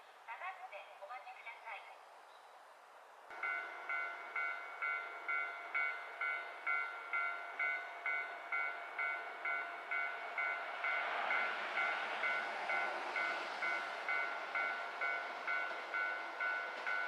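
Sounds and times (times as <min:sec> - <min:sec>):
train approaching rush: 0:03.0 - 0:17.0.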